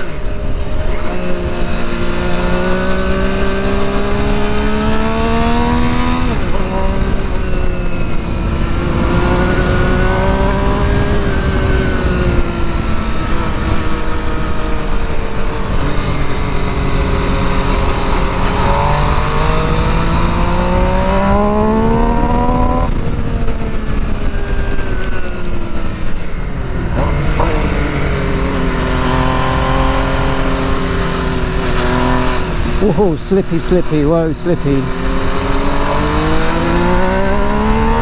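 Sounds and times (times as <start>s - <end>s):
motorcycle engine revving: 0.0s - 38.0s
wind rushing on microphone: 0.0s - 38.0s.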